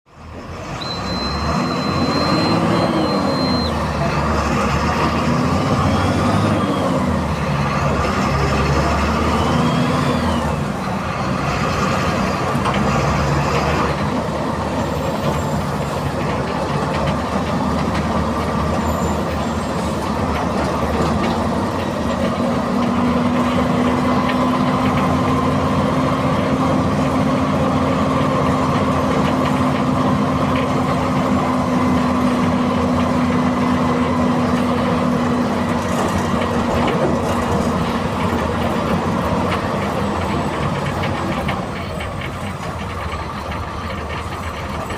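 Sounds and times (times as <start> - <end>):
diesel bus engine running: 0.1 - 44.9.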